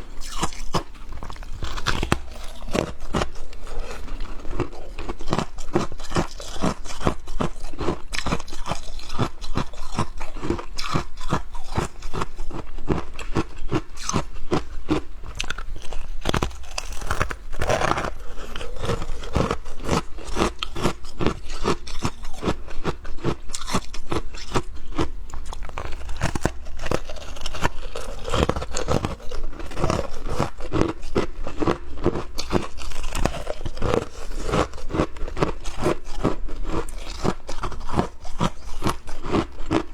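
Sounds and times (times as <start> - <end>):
frost crunching: 0.0 - 11.9, 15.4 - 22.5, 23.5 - 39.9.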